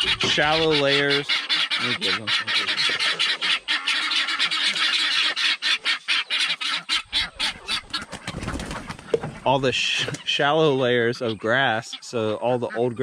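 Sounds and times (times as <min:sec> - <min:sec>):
hens squawking and clucking: 0:00.0 - 0:13.0.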